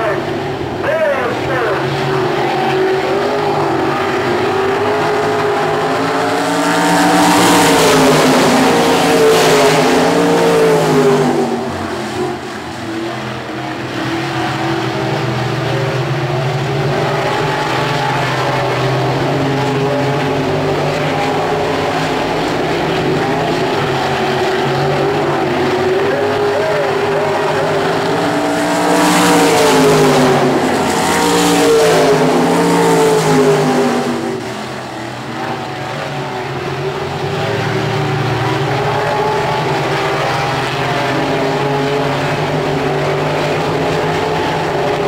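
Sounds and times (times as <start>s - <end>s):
racing car engines roaring: 0.0s - 45.0s.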